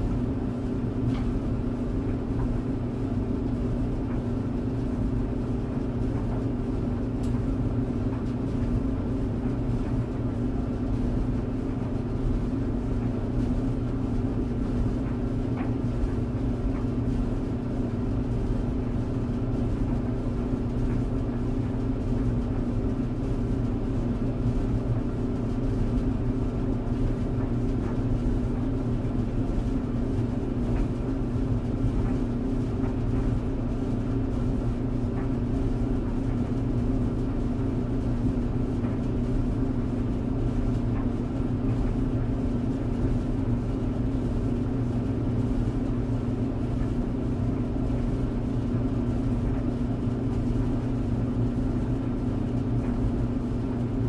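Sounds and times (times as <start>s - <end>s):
tumble dryer humming: 0.0s - 54.0s.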